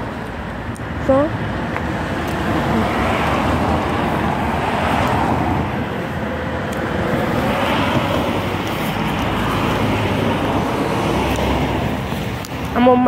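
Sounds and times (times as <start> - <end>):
passing cars rushing: 0.0 - 13.0.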